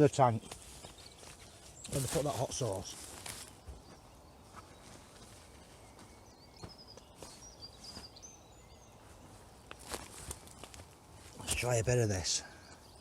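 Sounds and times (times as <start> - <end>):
small bird chirping and trilling: 0.0 - 10.6.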